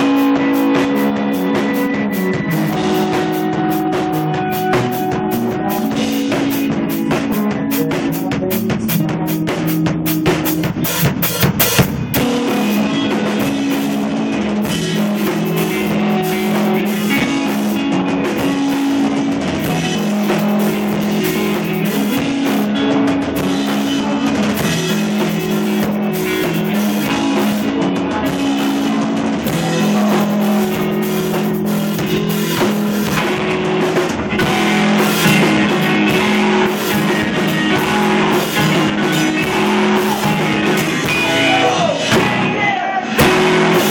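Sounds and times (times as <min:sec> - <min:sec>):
drum kit beat: 0:00.0 - 0:43.9
electric guitar chords: 0:00.0 - 0:43.9
rapid drum hits: 0:00.0 - 0:43.9.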